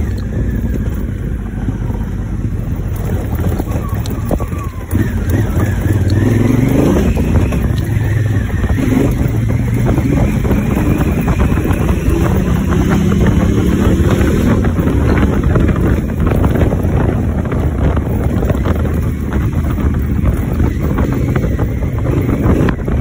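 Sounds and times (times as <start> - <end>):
motorcycle engine running: 0.0 - 23.0
wind buffeting on microphone: 0.0 - 23.0.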